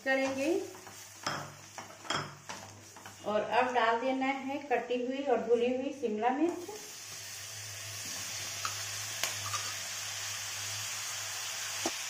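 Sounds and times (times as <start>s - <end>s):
peppers sizzling in oil: 0.0s - 4.6s, 6.4s - 12.0s.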